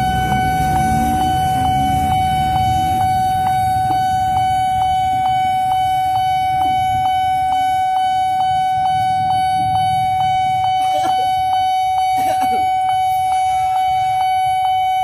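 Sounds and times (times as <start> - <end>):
level-crossing warning bell ringing: 0.0 - 15.0
motorcycle engines idling: 0.0 - 15.0.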